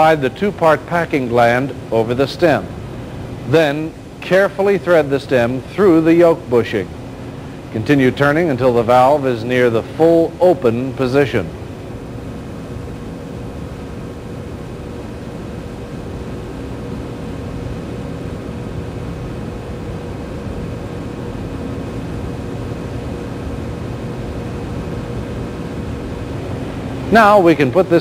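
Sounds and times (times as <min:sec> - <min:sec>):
faint even hum: 0:00.0 - 0:28.0.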